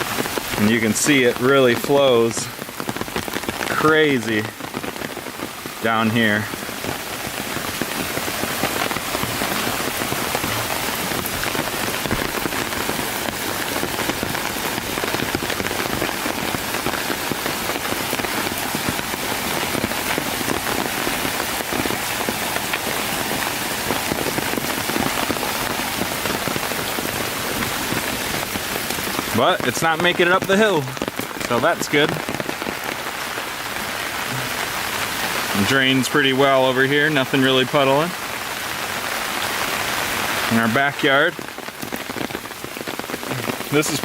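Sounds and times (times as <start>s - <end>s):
rain pattering on umbrella: 0.0s - 44.0s.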